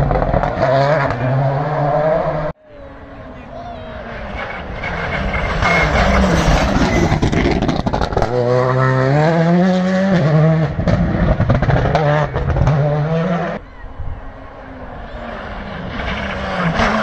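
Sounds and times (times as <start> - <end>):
rally car accelerating hard: 0.0 - 2.5, 4.0 - 13.6, 14.8 - 17.0.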